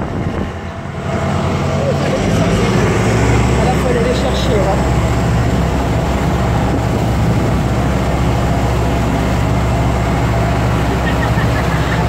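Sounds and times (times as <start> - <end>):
motorboat engine running: 0.0 - 12.0
water rushing past hull: 0.0 - 12.0.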